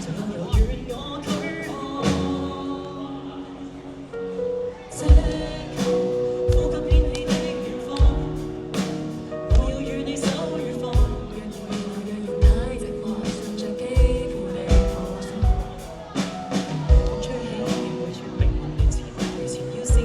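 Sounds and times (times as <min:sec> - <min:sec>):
live band playing slow song: 0:00.0 - 0:20.0
person singing: 0:00.0 - 0:20.0.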